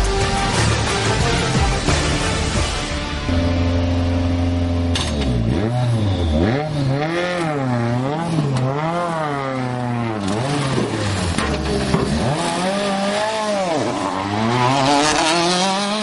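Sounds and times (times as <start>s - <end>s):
rally car engine idling and revving: 0.0s - 16.0s.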